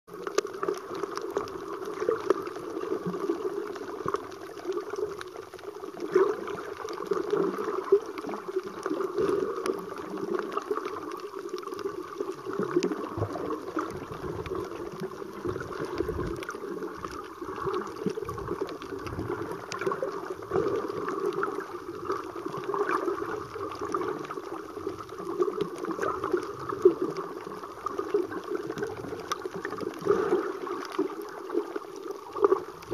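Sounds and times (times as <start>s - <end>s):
water sloshing underwater: 0.1s - 32.9s.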